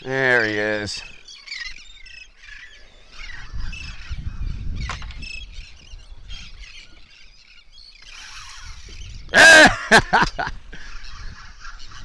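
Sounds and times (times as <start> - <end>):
seabirds calling: 0.0 - 12.0.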